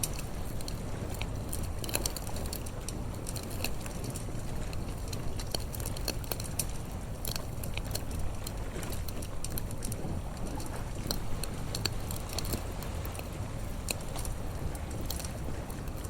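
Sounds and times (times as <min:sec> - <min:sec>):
wood campfire crackling: 0:00.0 - 0:16.0.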